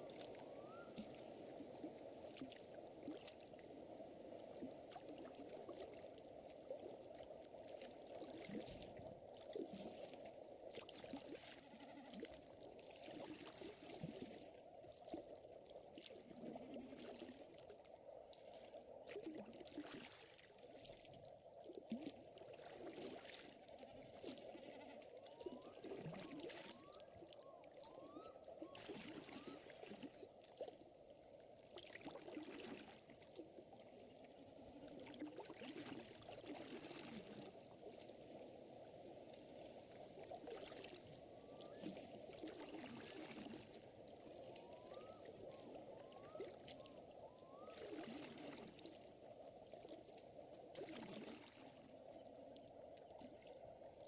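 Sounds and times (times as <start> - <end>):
faint water lapping and trickling: 0.0 - 54.0.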